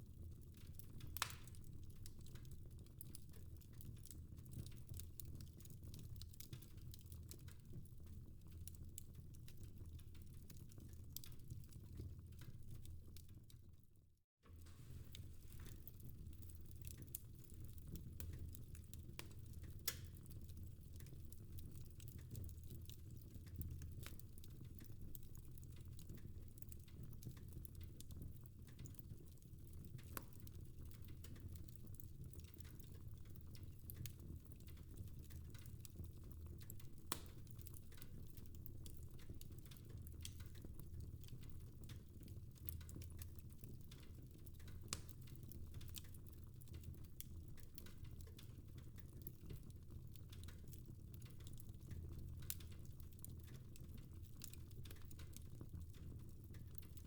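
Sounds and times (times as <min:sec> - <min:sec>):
fire crackling with pops: 0:00.5 - 0:13.6, 0:14.6 - 0:57.0.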